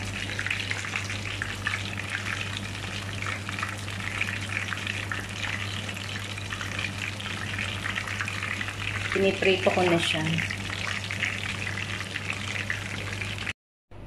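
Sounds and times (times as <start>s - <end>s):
oil crackling and sizzling: 0.0s - 13.5s.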